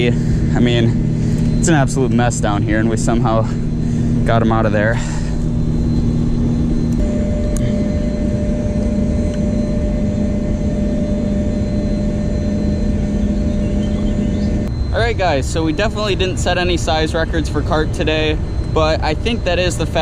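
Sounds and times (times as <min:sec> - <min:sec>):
continuous rushing noise: 0:00.0 - 0:20.0
higher steady machine tone: 0:00.0 - 0:20.0
low machine hum: 0:00.0 - 0:20.0.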